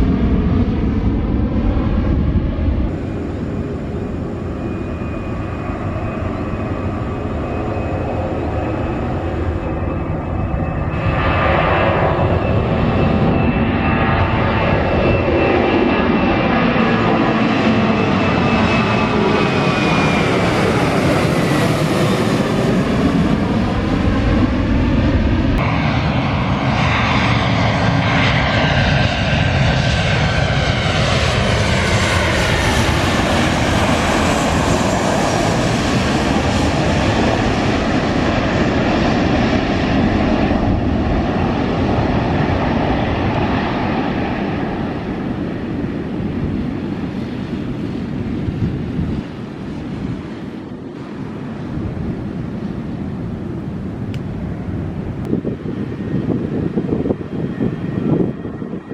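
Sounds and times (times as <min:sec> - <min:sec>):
airliner engines passing: 0:00.0 - 0:58.9.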